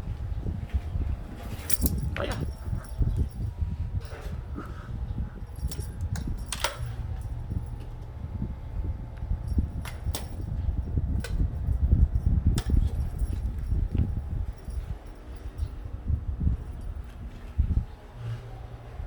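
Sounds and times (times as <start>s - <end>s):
handling noise rumble: 0.0s - 19.0s.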